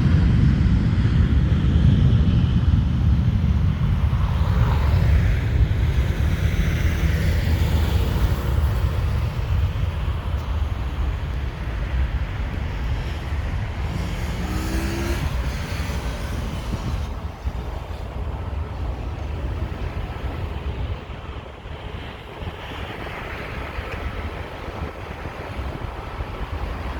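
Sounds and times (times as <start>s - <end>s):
jet engine rumble: 0.0s - 26.9s.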